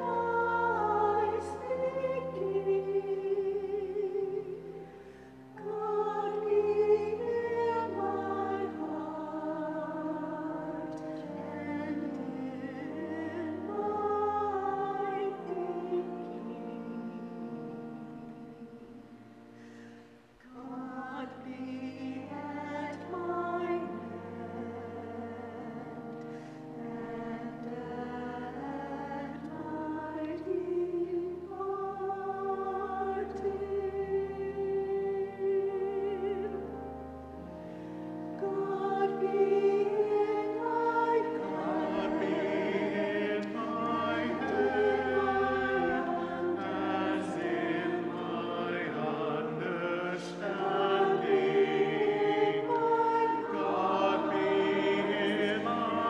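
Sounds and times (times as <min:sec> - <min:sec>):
choir singing: 0:00.0 - 0:19.7, 0:20.4 - 0:56.0
pipe organ chords: 0:00.0 - 0:56.0.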